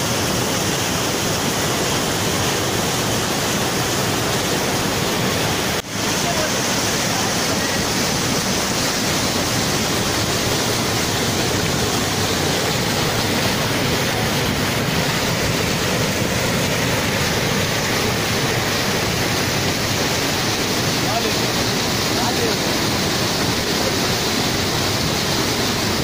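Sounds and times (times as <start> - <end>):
waterfall pouring over rocks: 0.0 - 26.0.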